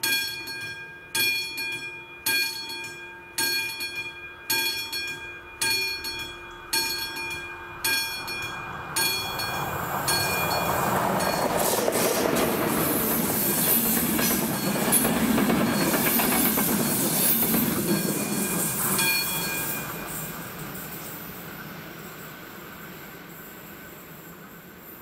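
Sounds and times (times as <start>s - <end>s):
crossing warning bell ringing: 0.0s - 21.5s
train wheels on rails: 0.0s - 25.0s.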